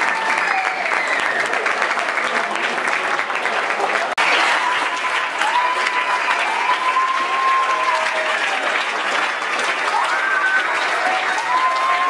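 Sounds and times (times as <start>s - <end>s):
high cheers: 0.0s - 2.7s, 4.2s - 12.0s
audience applauding: 0.0s - 12.0s.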